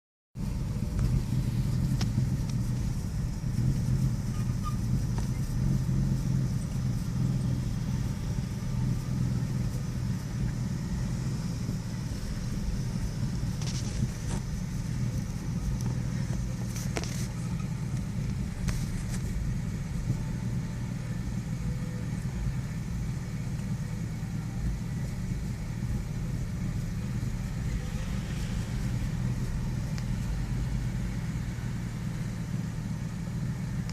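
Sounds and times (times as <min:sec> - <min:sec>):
car engine idling roughly: 0:00.4 - 0:33.9.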